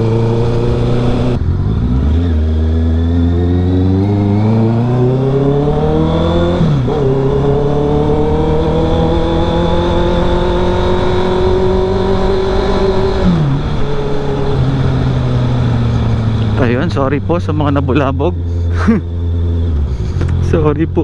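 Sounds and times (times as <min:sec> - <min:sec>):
loud motorcycle engine accelerating: 0:00.0 - 0:21.0.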